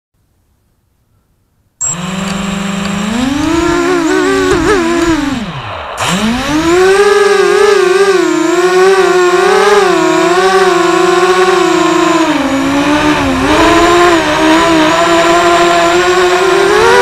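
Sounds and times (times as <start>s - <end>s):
quadcopter motors whining: 1.8s - 17.0s.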